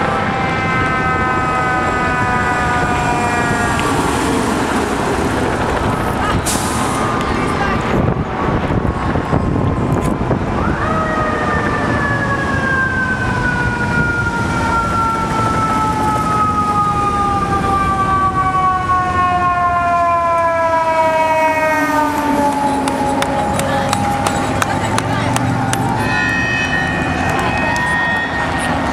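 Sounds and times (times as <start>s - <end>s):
heavy truck engines rumbling: 0.0s - 28.9s.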